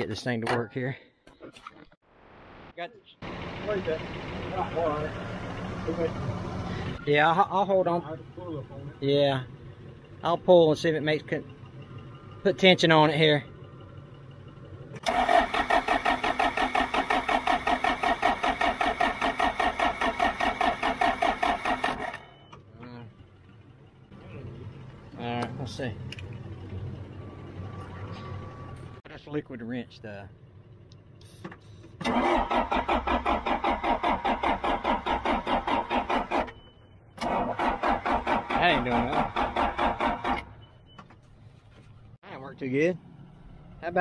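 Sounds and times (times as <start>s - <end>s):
diesel engine cranking: 3.2s - 29.0s, 30.3s - 41.4s.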